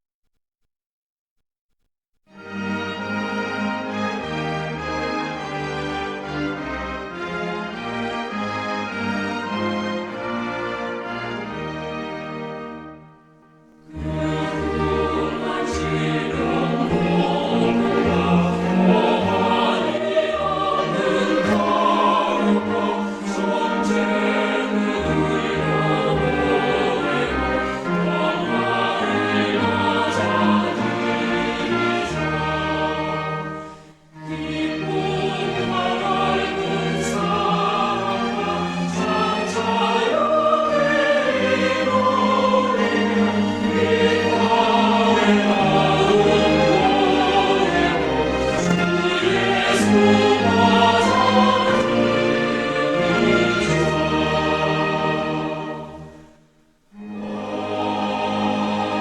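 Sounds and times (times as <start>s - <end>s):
instrumental accompaniment: 2.3s - 59.0s
choir singing a hymn: 2.5s - 13.1s, 13.7s - 59.0s.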